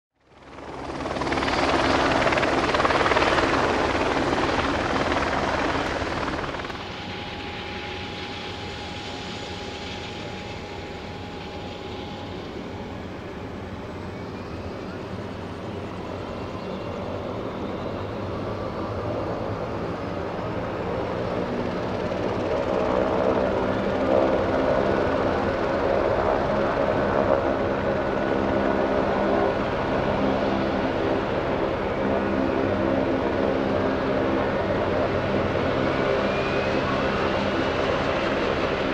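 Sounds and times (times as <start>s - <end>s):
helicopter engines and rotors: 0.2s - 38.9s.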